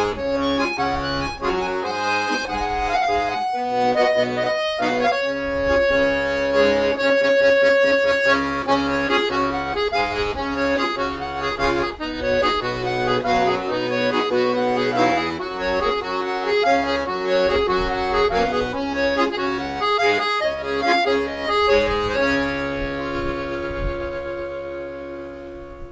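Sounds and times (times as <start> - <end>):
accordion music: 0.0 - 25.9.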